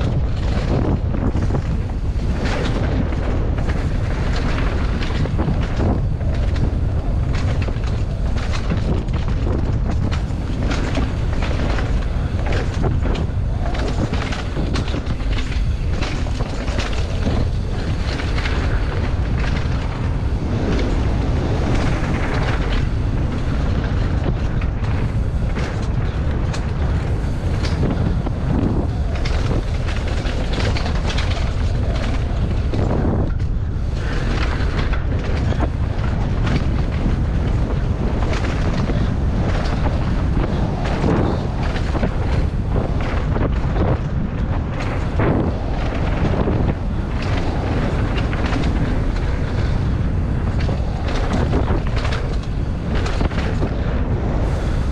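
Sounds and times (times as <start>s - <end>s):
bike knocks and rattles: 0.0s - 54.9s
tyres rumbling on dirt: 0.0s - 54.9s
wind buffeting microphone: 0.0s - 54.9s.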